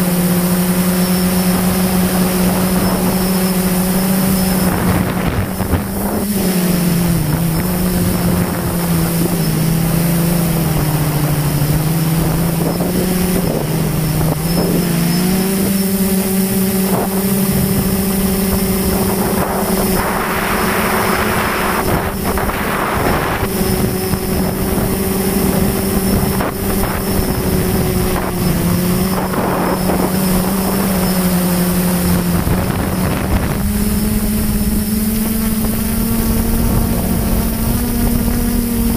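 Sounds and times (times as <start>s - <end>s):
motor and propeller humming: 0.0s - 38.9s
wind gusts rushing: 0.0s - 38.9s.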